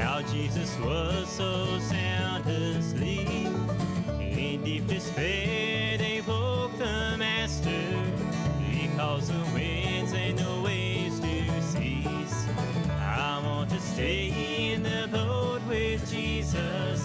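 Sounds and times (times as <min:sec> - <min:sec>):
banjo: 0:00.0 - 0:17.0
strummed acoustic guitar: 0:00.0 - 0:17.0.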